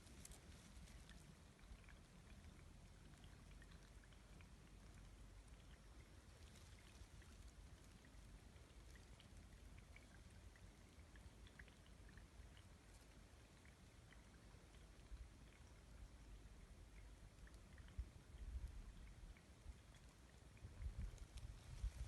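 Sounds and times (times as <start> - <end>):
small water drips and splashes: 0.0 - 22.0.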